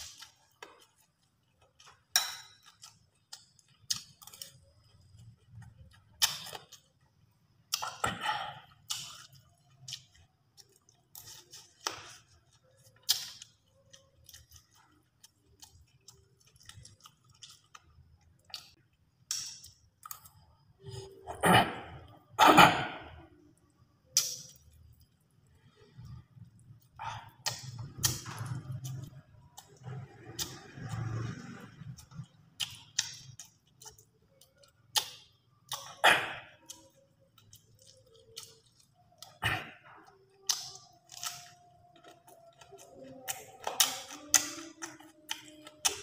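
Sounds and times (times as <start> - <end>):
man chewing: 0.0 - 46.0.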